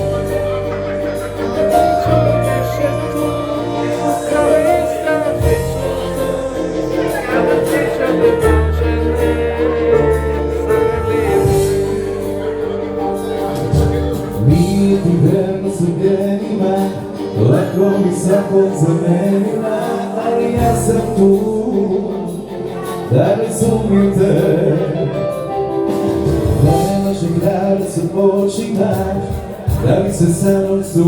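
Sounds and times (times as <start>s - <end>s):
live band playing pop music: 0.0s - 31.0s.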